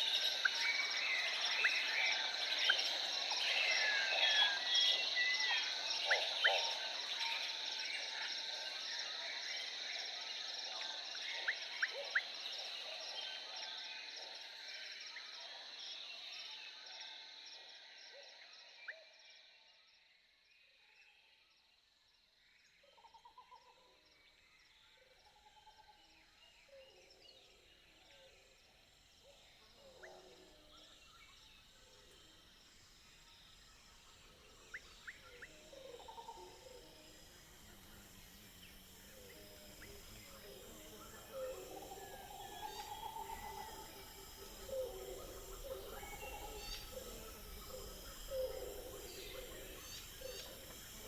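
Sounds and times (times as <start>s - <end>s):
high insect drone: 0.0s - 18.4s, 24.0s - 51.0s.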